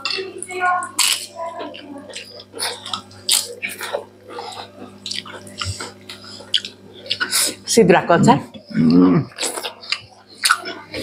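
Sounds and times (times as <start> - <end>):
wet chewing mouth sounds: 0.9 - 7.7, 8.5 - 11.0.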